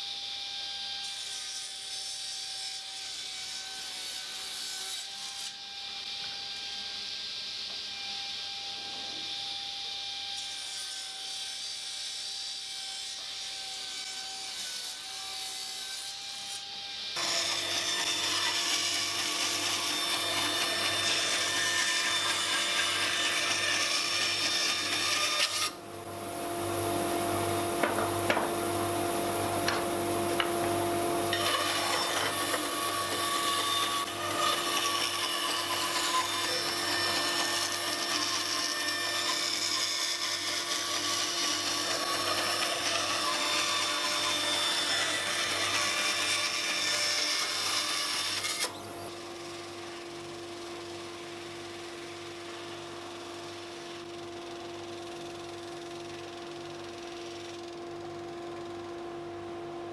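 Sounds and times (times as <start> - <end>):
power saw cutting wood: 0.0 - 54.4.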